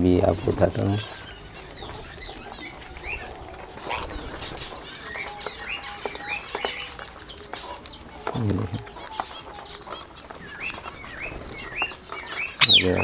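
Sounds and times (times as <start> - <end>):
beaks pecking at seed: 0.0 - 13.0
parakeets chirping: 0.0 - 13.0.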